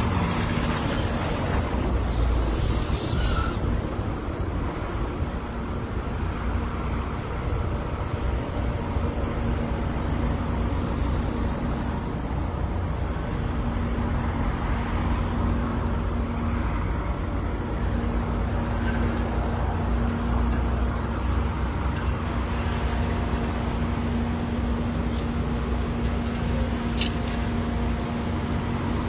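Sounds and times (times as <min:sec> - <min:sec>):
cars passing: 0:00.0 - 0:29.0
low traffic rumble: 0:00.0 - 0:29.0.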